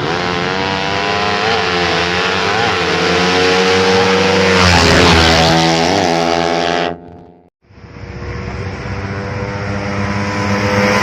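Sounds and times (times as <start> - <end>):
race motorcycle engines revving: 0.0 - 11.0.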